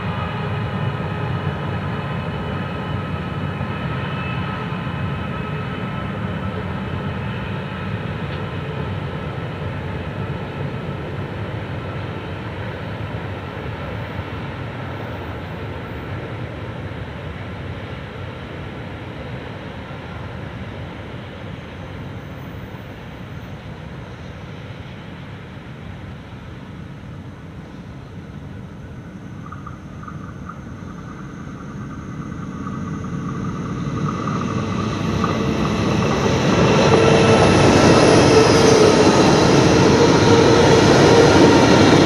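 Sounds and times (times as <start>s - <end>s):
diesel locomotive engine rumble: 0.0s - 42.0s.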